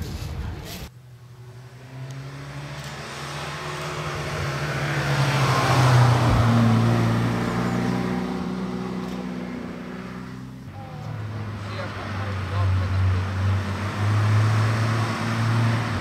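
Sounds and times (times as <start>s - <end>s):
rally car engine passing by: 1.1s - 16.0s.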